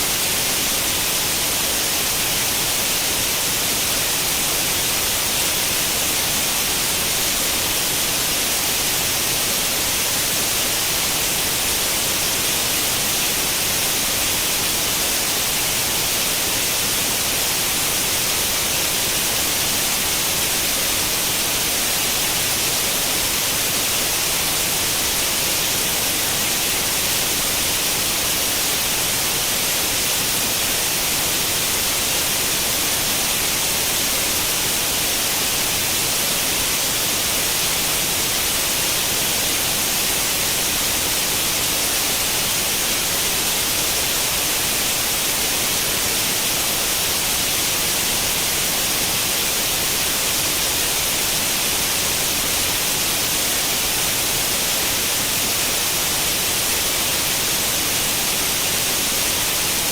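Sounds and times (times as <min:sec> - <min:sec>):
white noise static hiss: 0:00.0 - 0:59.9.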